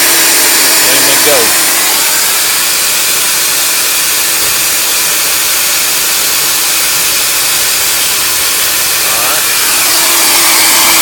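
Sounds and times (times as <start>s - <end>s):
pipe grinder hissing whir: 0.0s - 11.0s
steady hum: 0.0s - 11.0s.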